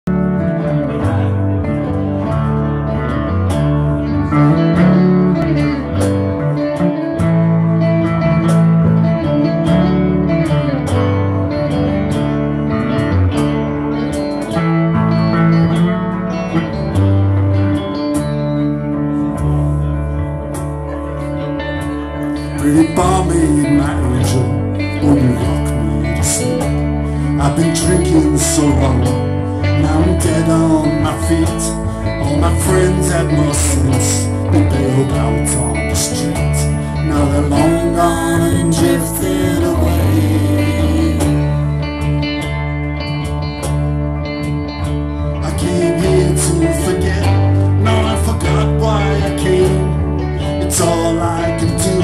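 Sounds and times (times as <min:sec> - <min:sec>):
bass line: 0:00.0 - 0:52.0
electric guitars: 0:00.0 - 0:52.0.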